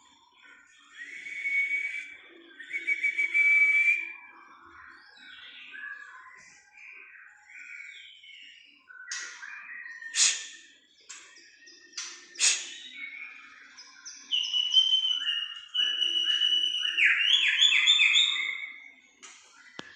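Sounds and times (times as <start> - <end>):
songbird whistles and chirps: 0.3 - 19.9.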